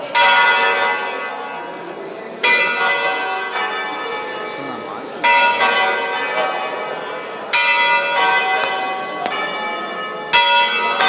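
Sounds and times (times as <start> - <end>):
church bells clanging: 0.0 - 11.0.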